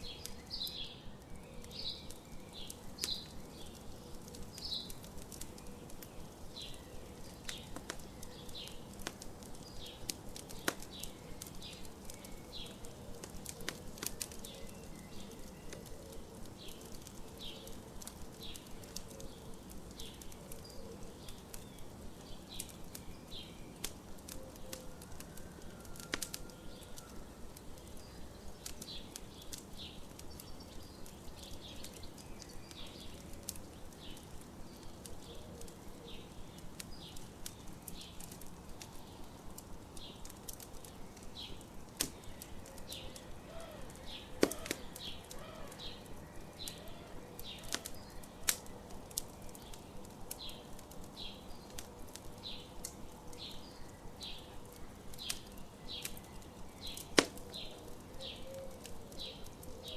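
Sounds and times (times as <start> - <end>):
campfire crackling: 0.0 - 59.9
sharp pops from fire: 0.0 - 59.9.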